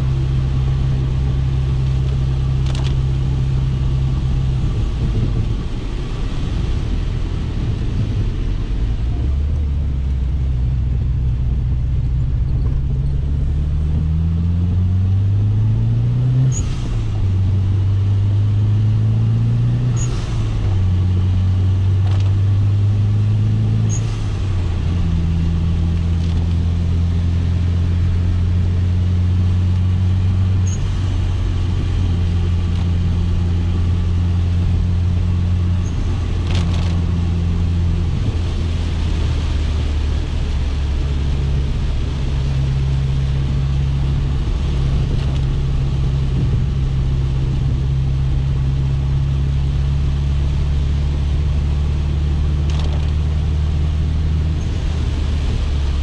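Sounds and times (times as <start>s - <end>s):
car engine running under load: 0.0s - 56.0s.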